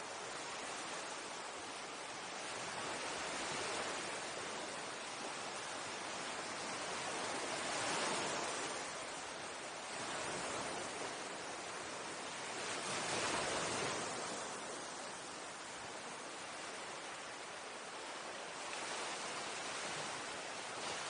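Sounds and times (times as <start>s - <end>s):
waves breaking on sand: 0.0s - 21.0s.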